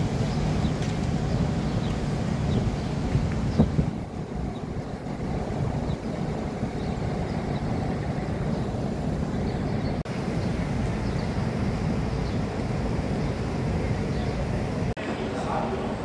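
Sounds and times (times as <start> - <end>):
city street traffic rumble: 0.0 - 16.0.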